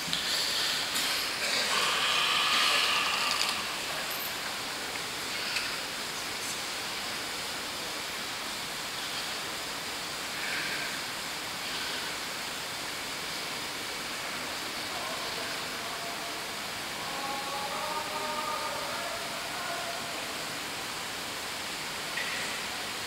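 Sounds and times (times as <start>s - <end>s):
microphone background hiss: 0.0s - 23.0s.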